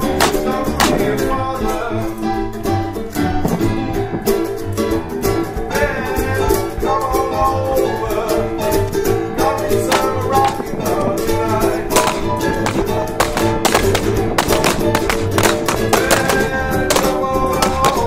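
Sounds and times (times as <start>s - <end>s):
guitar-led song with steady beat: 0.0s - 18.0s.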